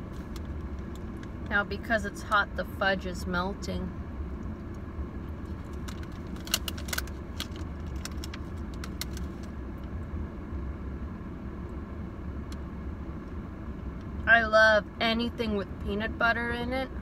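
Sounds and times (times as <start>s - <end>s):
low hum of a car: 0.0s - 17.0s.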